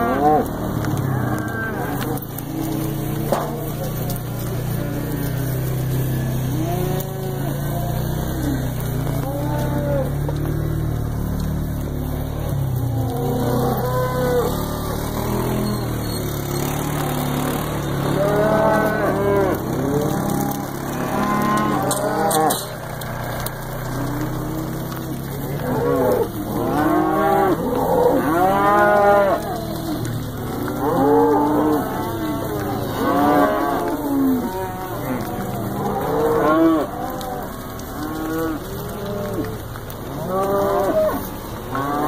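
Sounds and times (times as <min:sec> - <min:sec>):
cattle mooing: 0:00.0 - 0:42.0.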